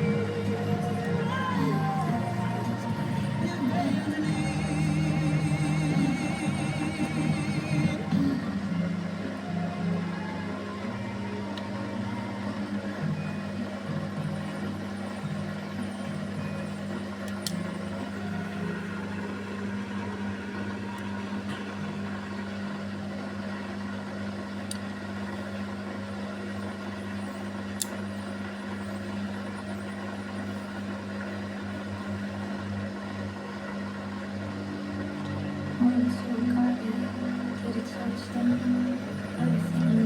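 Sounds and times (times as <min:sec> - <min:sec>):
washing machine spinning hum: 0:00.0 - 0:40.0.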